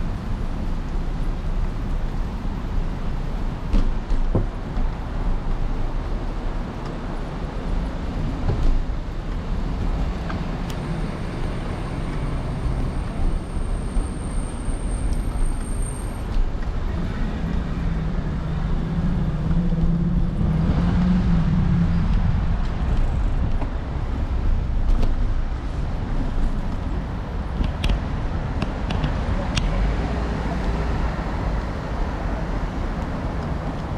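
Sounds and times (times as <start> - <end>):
vehicles passing: 0.0 - 33.9.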